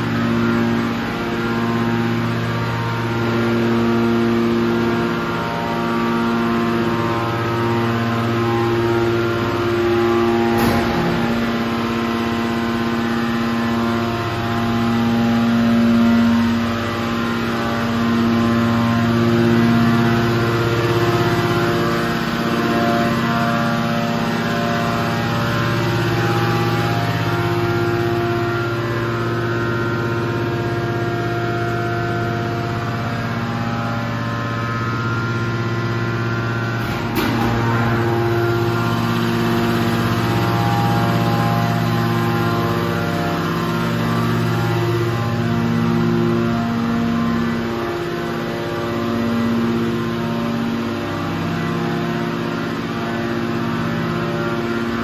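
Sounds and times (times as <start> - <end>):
hydraulic baler humming: 0.0 - 55.0.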